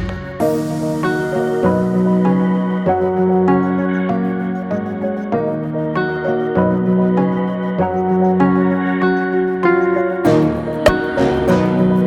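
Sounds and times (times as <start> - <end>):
soft keyboard melody: 0.0 - 12.0.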